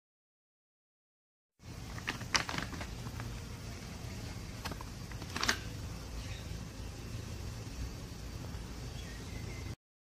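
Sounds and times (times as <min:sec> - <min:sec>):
steady low hum: 0:01.6 - 0:09.8.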